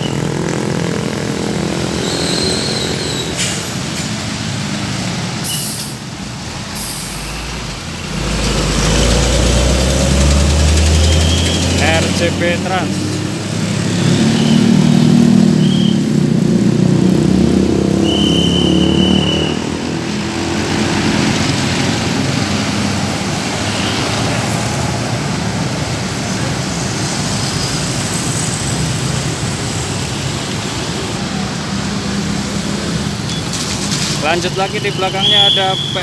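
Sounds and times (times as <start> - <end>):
bus engine passing: 0.0 - 35.1
road traffic noise: 0.0 - 36.0.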